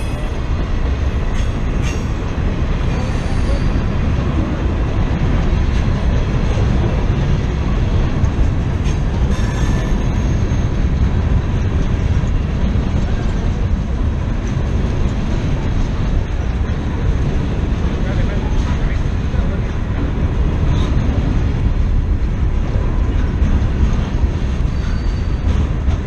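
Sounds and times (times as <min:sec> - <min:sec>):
freight train wheels rumbling on rails: 0:00.0 - 0:26.0.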